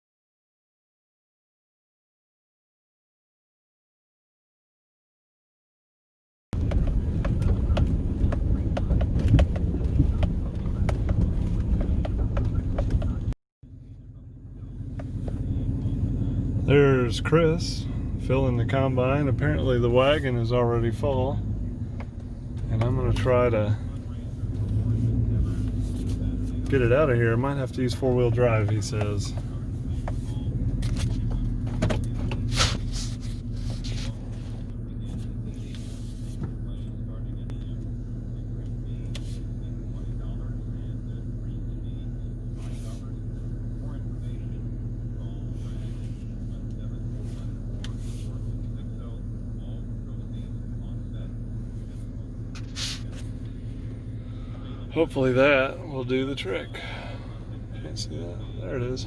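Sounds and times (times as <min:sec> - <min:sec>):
farm machinery engine rumble: 0:06.6 - 0:59.0.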